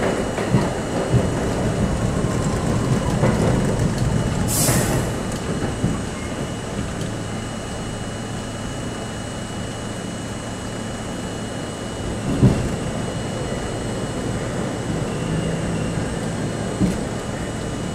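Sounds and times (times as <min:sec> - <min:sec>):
subway train rumbling: 0:00.0 - 0:17.9.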